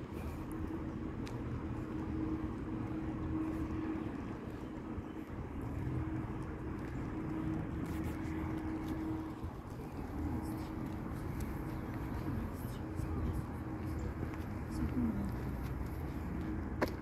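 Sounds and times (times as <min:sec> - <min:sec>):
faint droning hum: 0:00.0 - 0:17.0
low outdoor rumble: 0:00.0 - 0:17.0.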